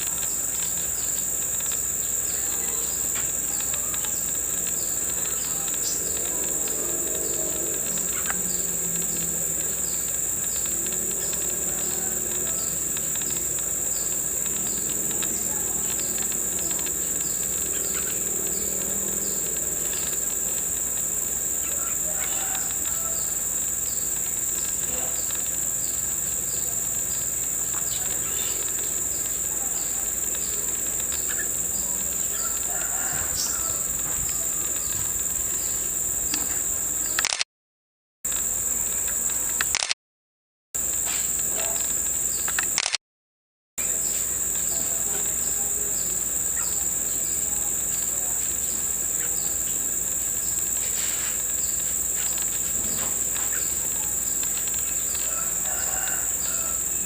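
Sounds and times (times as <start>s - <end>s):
insects droning: 0.0s - 37.4s, 38.3s - 39.9s, 40.8s - 43.0s, 43.8s - 57.0s.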